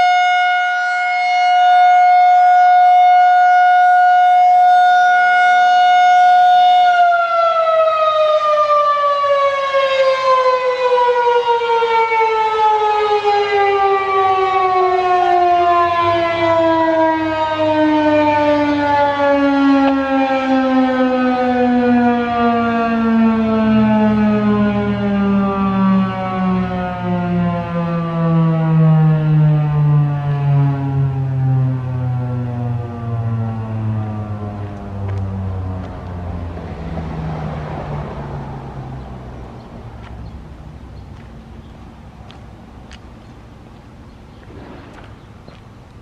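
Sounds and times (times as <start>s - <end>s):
warning siren winding down: 0.0s - 42.9s.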